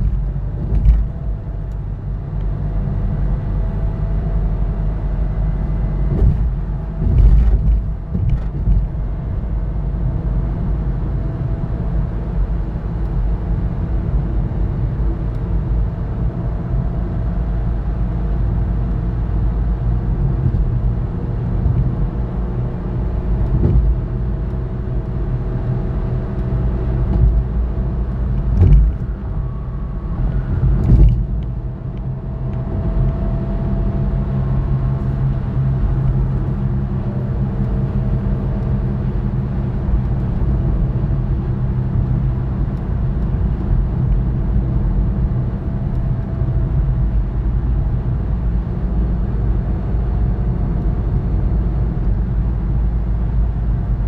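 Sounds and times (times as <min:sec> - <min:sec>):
car road noise from inside: 0:00.0 - 0:54.0.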